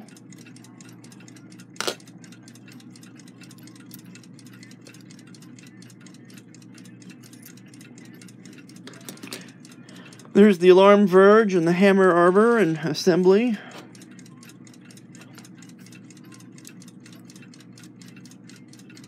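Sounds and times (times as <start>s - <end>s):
metallic clock parts clicking: 0.0s - 19.0s
steady low hum: 0.0s - 19.0s.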